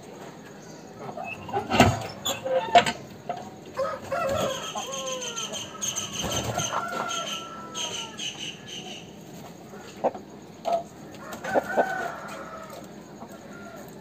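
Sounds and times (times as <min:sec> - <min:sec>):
roosters crowing and clucking: 0:00.0 - 0:14.0.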